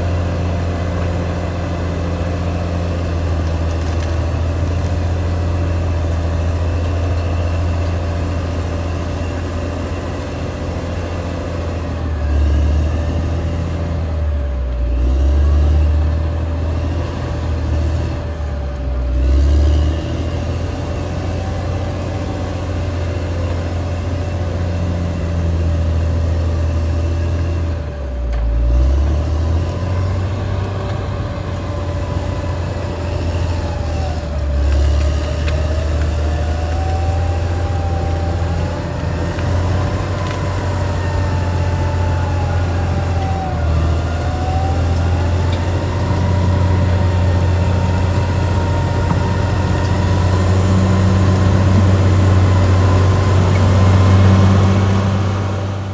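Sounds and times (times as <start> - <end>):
bulldozer diesel engine: 0.0 - 55.9.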